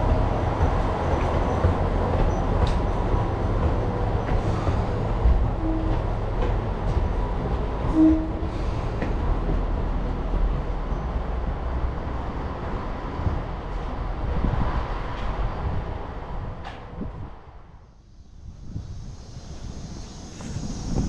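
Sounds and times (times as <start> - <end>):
train wheels and engine rumbling: 0.0 - 21.0.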